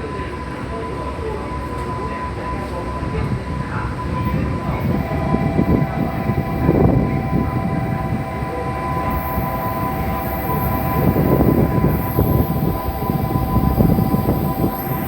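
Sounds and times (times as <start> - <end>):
steady high whine: 0.0 - 15.0
train rumbling on rails: 0.0 - 15.0.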